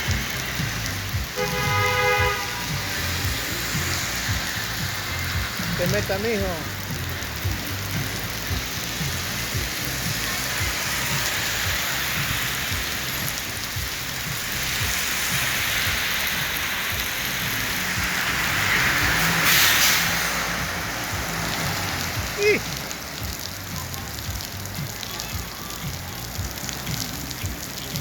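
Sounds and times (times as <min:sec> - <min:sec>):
heavy rain splashing on street: 0:00.0 - 0:28.0.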